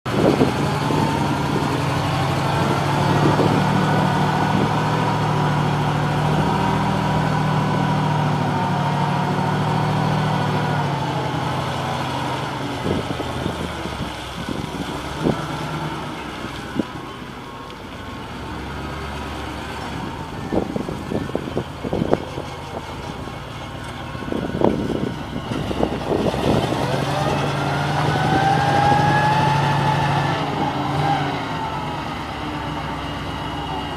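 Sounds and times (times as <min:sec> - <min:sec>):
forklift engine running: 0:00.0 - 0:33.9.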